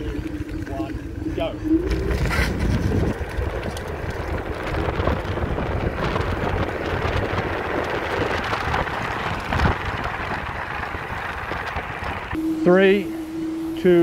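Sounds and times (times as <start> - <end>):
tyre and road noise: 0.0 - 12.4
wind buffeting microphone: 0.0 - 14.0.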